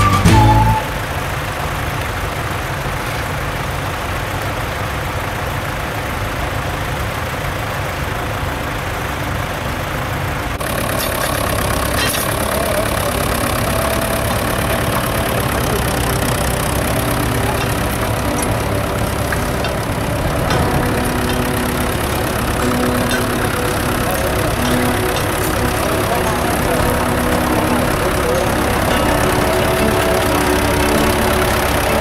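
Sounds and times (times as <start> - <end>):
faint engine whine: 0.0 - 32.0
tractor engine rumbling: 0.0 - 32.0.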